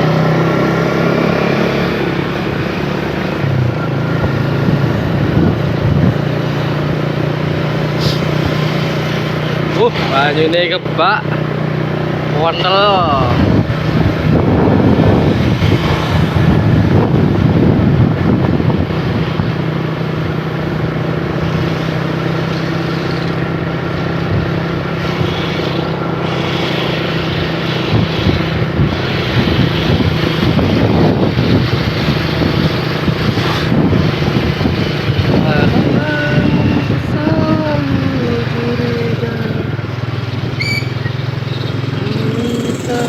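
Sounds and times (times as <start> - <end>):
motorcycle engine running: 0.0 - 43.0
road and wind noise: 0.0 - 43.0.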